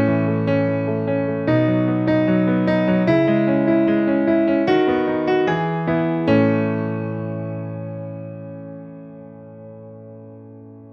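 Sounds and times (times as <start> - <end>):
keyboard melody: 0.0 - 10.9.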